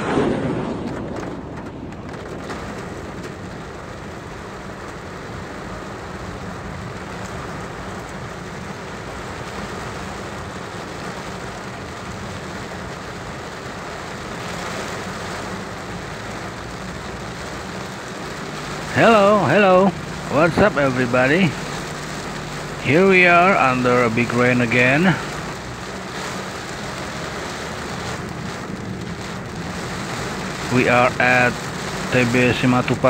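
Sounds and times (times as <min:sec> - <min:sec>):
heavy rain on car: 0:00.0 - 0:33.0
tyres on wet road: 0:00.0 - 0:33.0.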